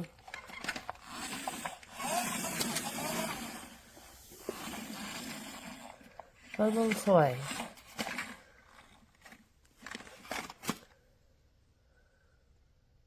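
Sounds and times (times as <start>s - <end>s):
hard plastic toy rubbing and scraping: 0.0s - 10.9s.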